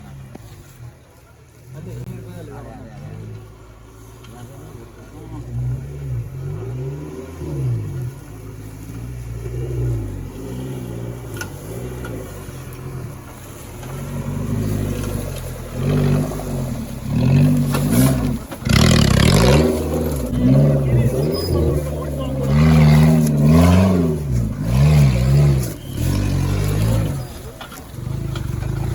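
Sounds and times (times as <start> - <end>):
off-road vehicle engine revving: 0.0 - 28.9.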